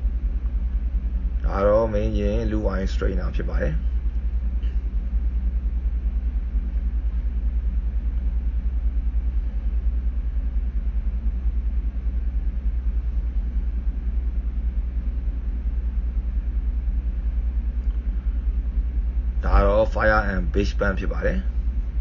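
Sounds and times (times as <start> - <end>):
engine room machinery rumbling: 0.0 - 22.0.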